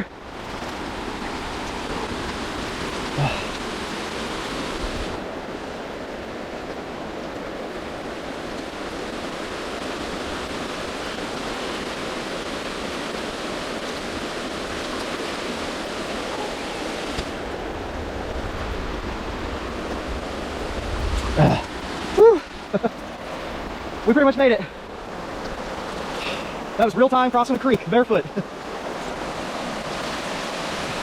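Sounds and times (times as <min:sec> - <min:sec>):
creek water over rocks: 0:00.0 - 0:31.0
heavy rain falling: 0:00.0 - 0:31.0.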